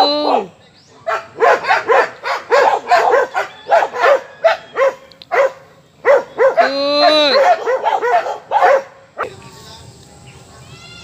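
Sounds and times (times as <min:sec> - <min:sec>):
dogs barking: 0:00.0 - 0:09.2.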